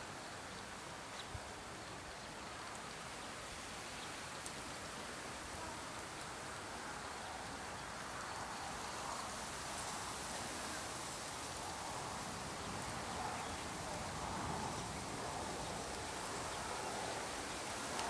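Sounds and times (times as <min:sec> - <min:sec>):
wind rustling bamboo leaves: 0:00.0 - 0:18.0.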